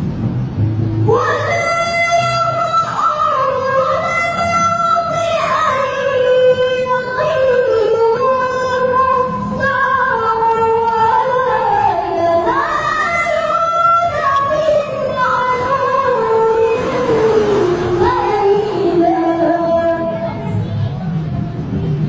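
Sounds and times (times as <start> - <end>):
woman singing slow melody: 1.0 - 20.4.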